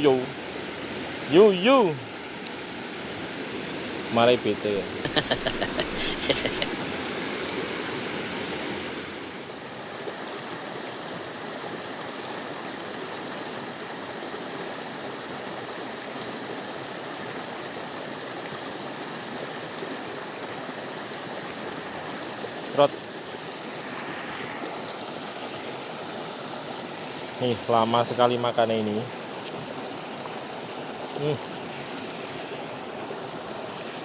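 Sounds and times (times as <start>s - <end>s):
river water running over stones: 0.0s - 34.0s.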